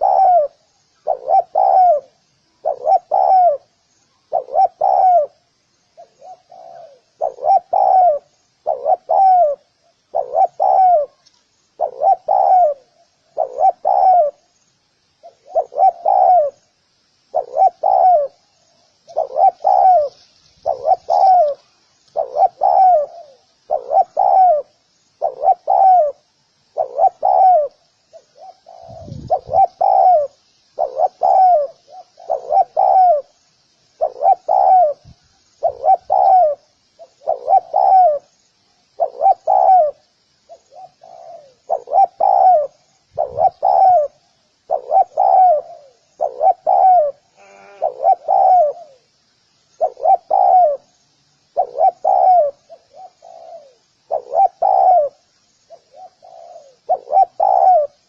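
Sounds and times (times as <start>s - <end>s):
dove cooing: 0.0s - 14.5s, 15.2s - 16.7s, 17.3s - 33.4s, 34.0s - 38.3s, 38.9s - 49.1s, 49.8s - 58.0s
faint high hiss: 0.0s - 58.0s.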